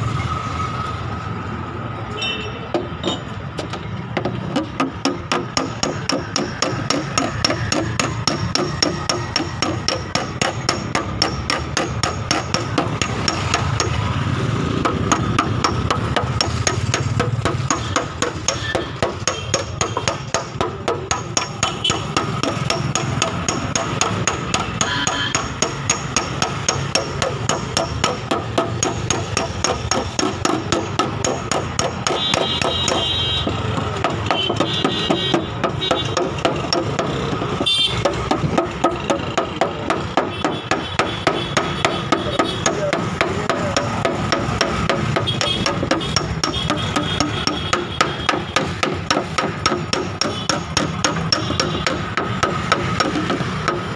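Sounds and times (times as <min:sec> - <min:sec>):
hammer tapping on sheet steel: 0:02.7 - 0:53.9.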